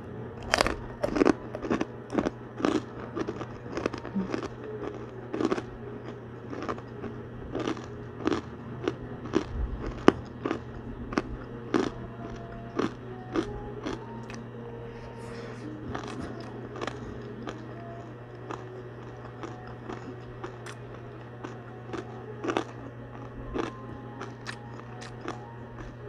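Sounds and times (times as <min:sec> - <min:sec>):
crunchy food being chewed: 0:00.4 - 0:26.0.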